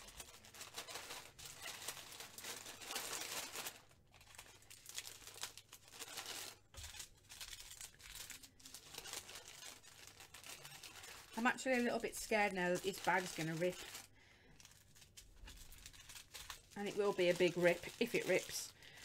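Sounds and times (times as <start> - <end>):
plastic packets crinkling: 0.0 - 19.0.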